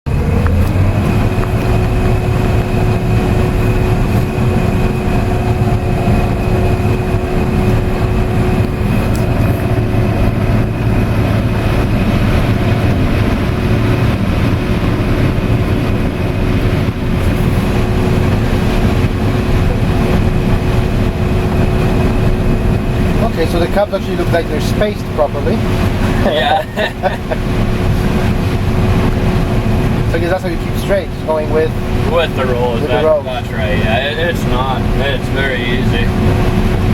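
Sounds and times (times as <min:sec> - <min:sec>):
combine harvester droning: 0:00.1 - 0:36.9
constant machine whine: 0:00.1 - 0:36.9.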